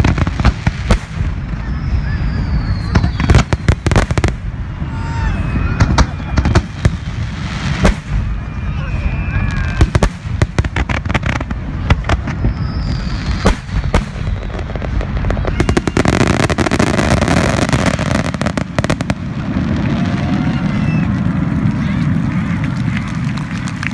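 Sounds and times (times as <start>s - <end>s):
fireworks crackling: 0.0s - 23.9s.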